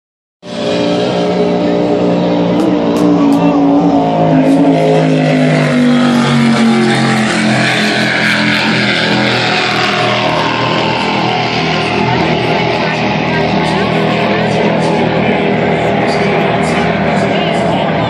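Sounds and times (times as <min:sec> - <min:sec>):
powerboat engines passing: 0:00.4 - 0:18.0.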